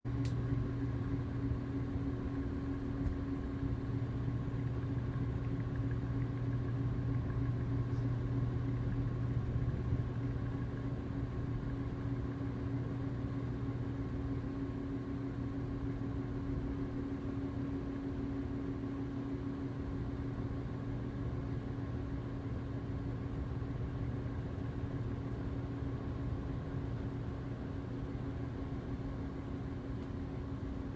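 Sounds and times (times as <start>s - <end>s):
ceiling fan motor humming: 0.0s - 30.9s.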